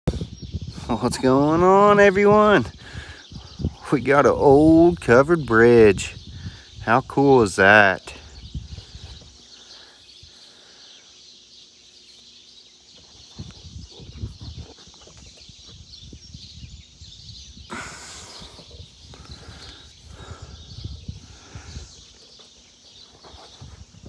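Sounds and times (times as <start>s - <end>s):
insects chorus: 0.1s - 24.0s.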